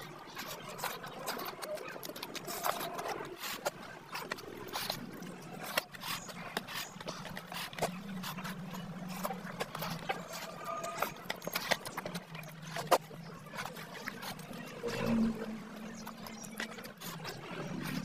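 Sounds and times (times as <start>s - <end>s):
wet chewing and lip-smacking: 0.0s - 18.0s.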